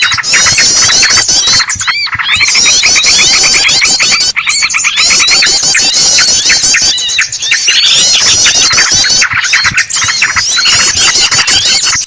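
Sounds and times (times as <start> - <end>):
bird distress squeals: 0.0 - 12.0
bulbuls chattering: 0.0 - 12.0.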